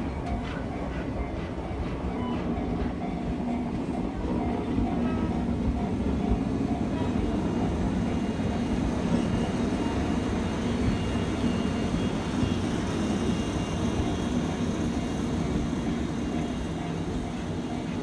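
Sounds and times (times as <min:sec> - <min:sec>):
train rolling past: 0:00.0 - 0:18.0.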